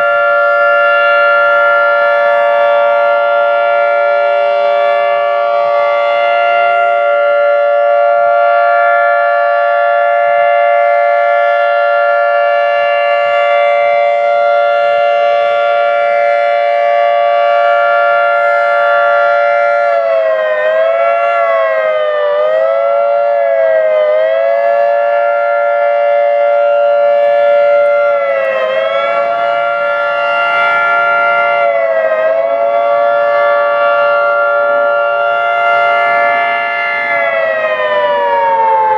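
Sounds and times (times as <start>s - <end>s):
warning siren two-note tone: 0.0s - 38.9s.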